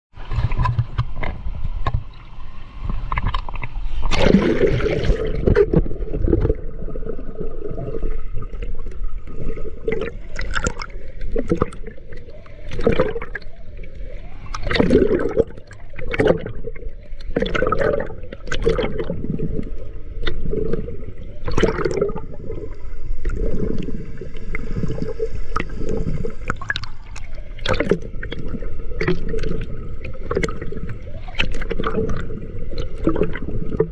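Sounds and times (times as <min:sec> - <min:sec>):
water sloshing with strokes: 0:00.2 - 0:33.9
underwater breath bubbles: 0:03.1 - 0:33.9.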